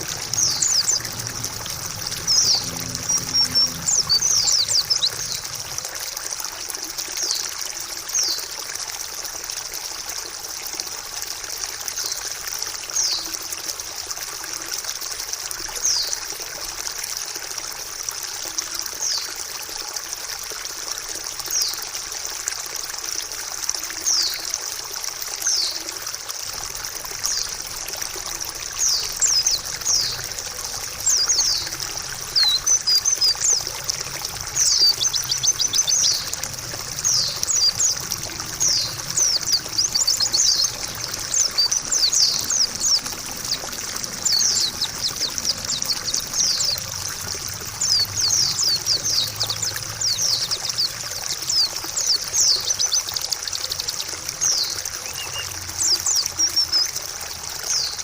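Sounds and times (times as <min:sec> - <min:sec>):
trickle of running water: 0:00.0 - 0:58.0.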